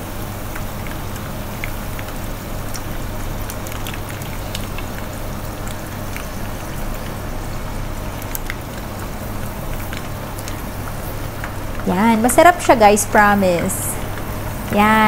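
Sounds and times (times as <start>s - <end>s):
oil sizzling in a pan: 0.0s - 15.0s
small pops and crackles: 0.4s - 12.8s.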